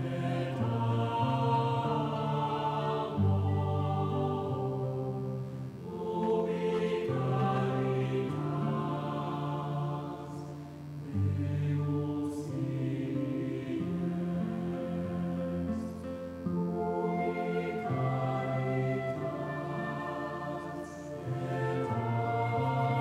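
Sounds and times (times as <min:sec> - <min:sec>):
voices chanting held chords: 0:00.0 - 0:23.0.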